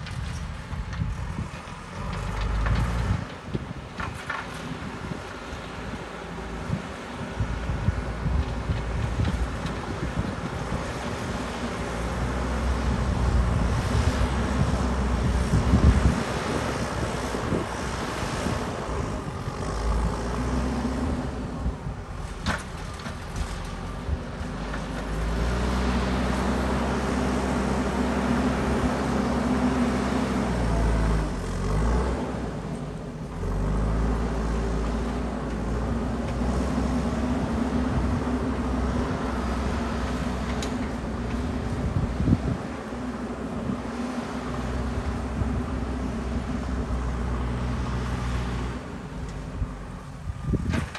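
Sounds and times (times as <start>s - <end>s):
diesel engine working: 0.0s - 50.9s.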